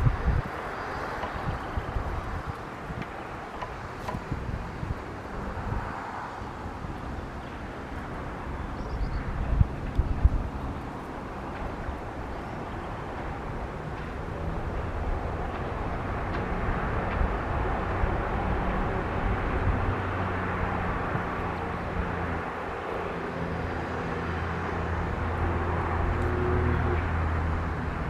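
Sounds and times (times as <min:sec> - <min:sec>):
rumble of motor traffic: 0:00.0 - 0:28.0.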